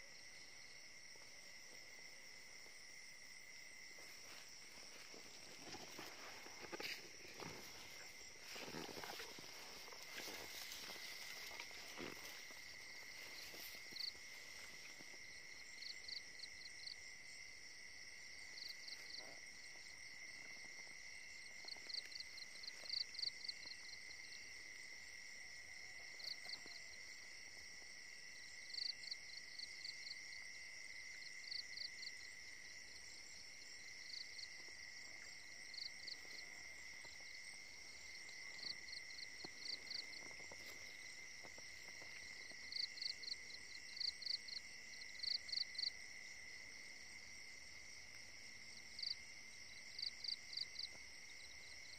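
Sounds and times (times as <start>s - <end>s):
cricket chirping: 0.0s - 51.9s.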